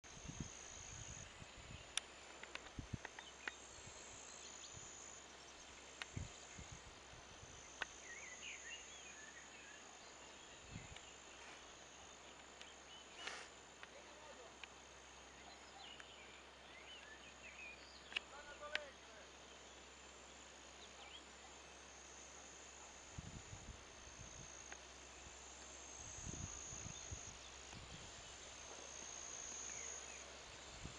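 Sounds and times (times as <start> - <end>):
insect chorus trilling: 0.1 - 30.9.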